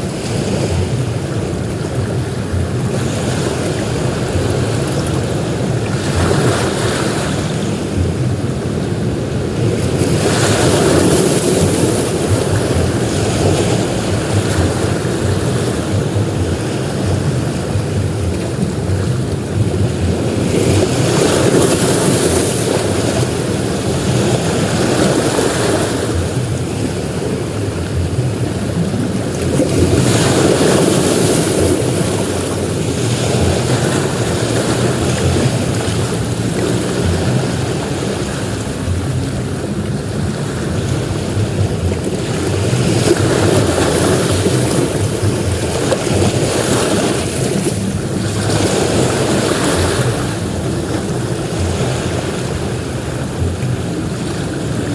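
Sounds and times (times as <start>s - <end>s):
sea waves breaking on a beach: 0.0s - 54.9s.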